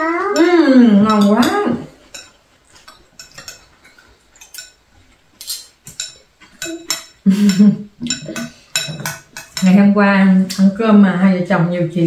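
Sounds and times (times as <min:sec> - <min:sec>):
chopsticks clinking on bowls: 0:00.0 - 0:04.8, 0:05.4 - 0:10.7.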